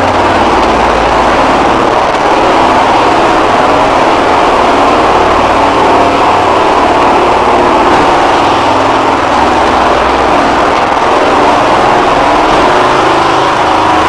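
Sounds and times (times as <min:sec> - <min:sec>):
alarm tone harsh buzz: 0:00.0 - 0:14.0.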